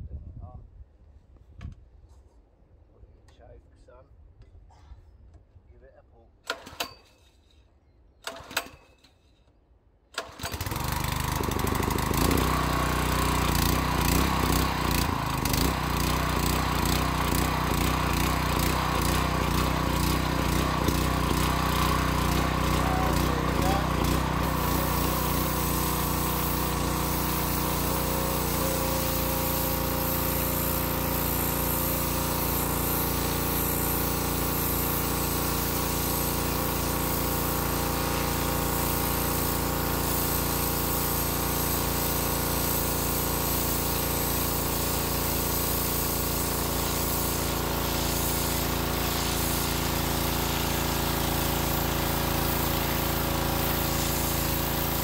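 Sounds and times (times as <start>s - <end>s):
pressure washer engine humming: 10.2s - 55.0s
water jet hissing on paving: 10.8s - 55.0s.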